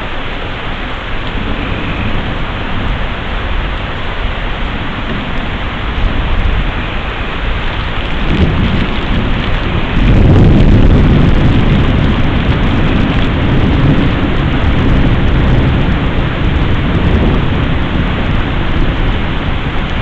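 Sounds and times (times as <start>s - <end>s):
steady rain: 0.0s - 20.0s
thunder rumbling: 0.0s - 20.0s.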